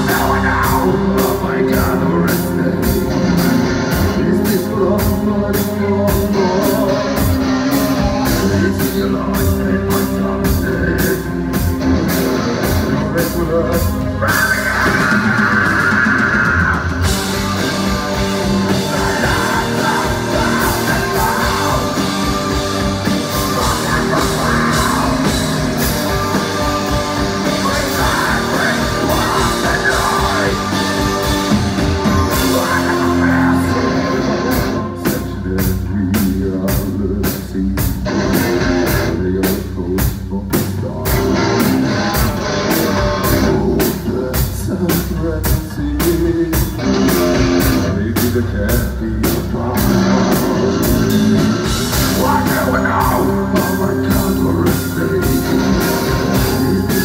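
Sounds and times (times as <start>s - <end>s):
distorted electric guitars: 0.0s - 57.0s
drum kit: 0.0s - 57.0s
man singing: 0.0s - 57.0s.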